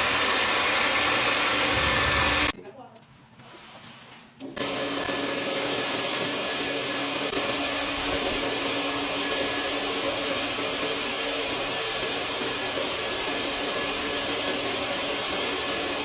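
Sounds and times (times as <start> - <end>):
vacuum cleaner running: 0.0 - 2.6, 4.6 - 16.0.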